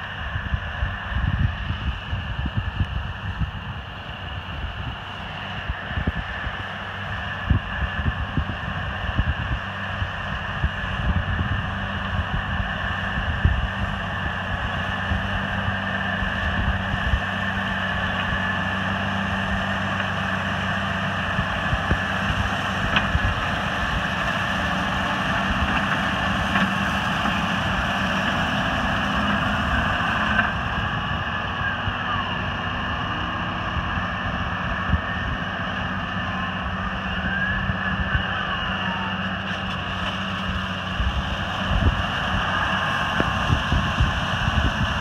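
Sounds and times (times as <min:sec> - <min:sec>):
tractor diesel engine drone: 0:00.0 - 0:45.0.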